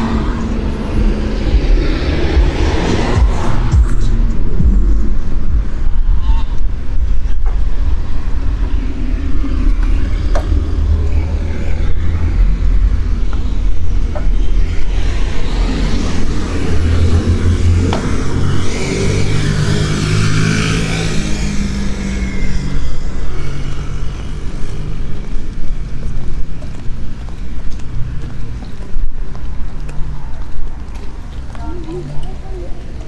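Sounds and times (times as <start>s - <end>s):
steady low rumble: 0.0s - 29.7s
car passing: 0.0s - 33.0s.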